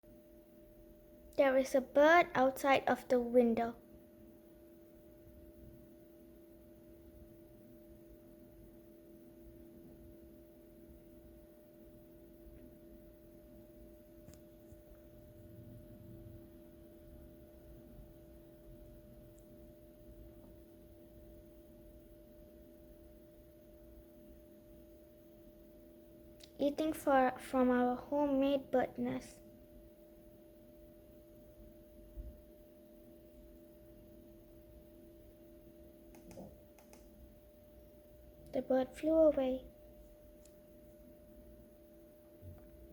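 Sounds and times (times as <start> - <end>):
faint two-tone hum: 0.0 - 42.9.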